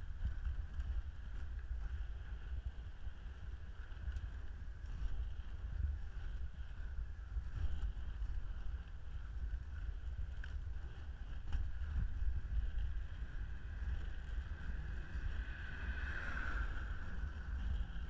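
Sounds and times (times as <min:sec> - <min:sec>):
skate wheels rolling on asphalt: 0:00.0 - 0:18.0
wheels ticking over bumps: 0:00.0 - 0:18.0
wind buffeting microphone: 0:00.0 - 0:18.0.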